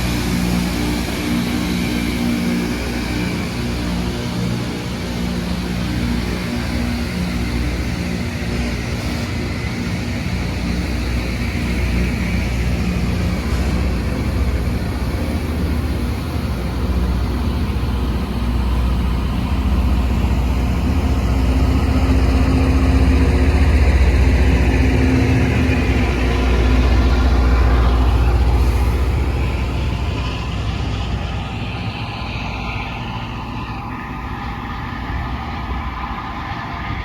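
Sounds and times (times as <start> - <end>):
grinding stones hissing on rail: 0.0 - 37.0
heavy diesel engines running: 0.0 - 37.0.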